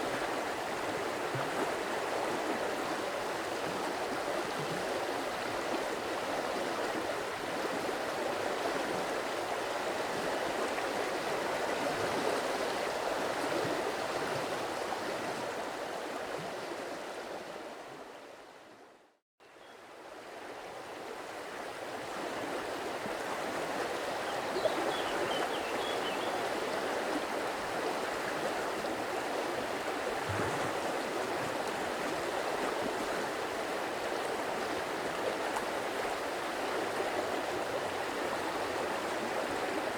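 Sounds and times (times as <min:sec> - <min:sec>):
stream water gurgling: 0:00.0 - 0:18.2, 0:20.0 - 0:39.9.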